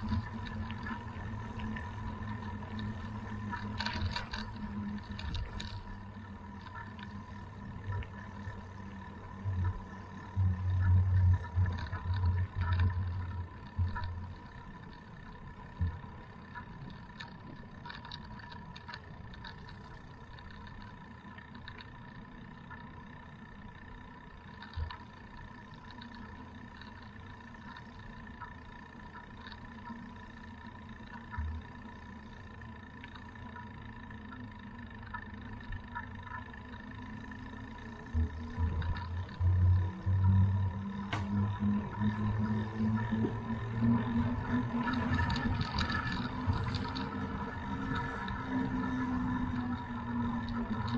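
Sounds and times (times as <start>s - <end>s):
bicycle rolling on asphalt: 0.0s - 50.9s
faint steady whine: 0.0s - 50.9s
small clicks and rattles: 0.0s - 50.9s.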